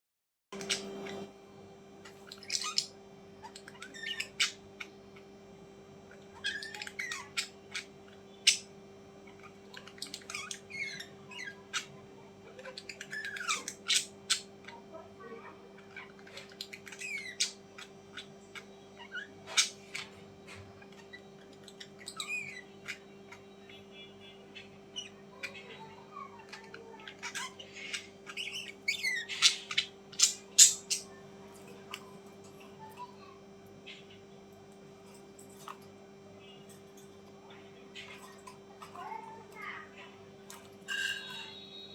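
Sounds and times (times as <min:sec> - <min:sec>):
birds squawking and chirping: 0:00.6 - 0:41.9
steady electrical hum: 0:00.6 - 0:41.9.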